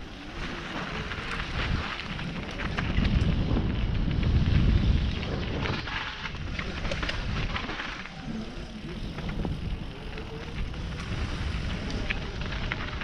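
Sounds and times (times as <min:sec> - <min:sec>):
bike rattling over bumps: 0:00.0 - 0:13.0
tyres crunching over dirt: 0:00.0 - 0:13.0
wind buffeting microphone: 0:00.0 - 0:13.0.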